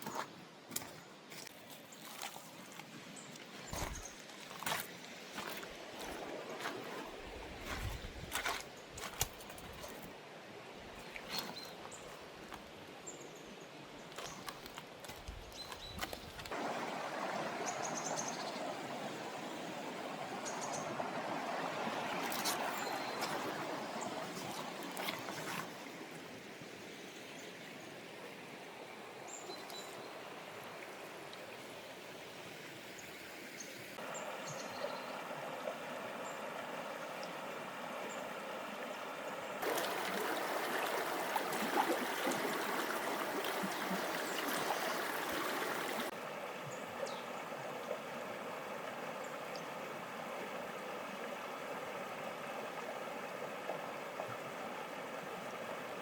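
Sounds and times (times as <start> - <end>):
stream water rushing: 0.7 - 13.1, 13.7 - 56.0.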